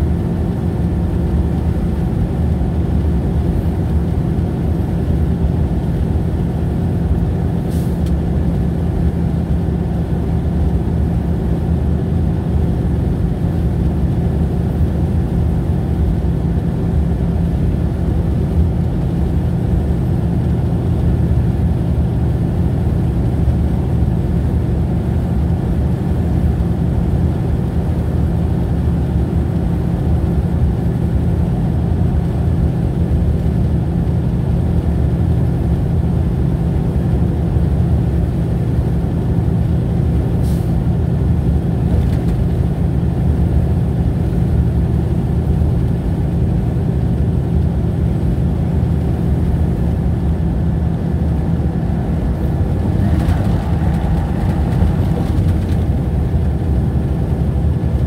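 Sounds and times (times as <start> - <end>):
car cabin road and engine drone: 0.0 - 58.0.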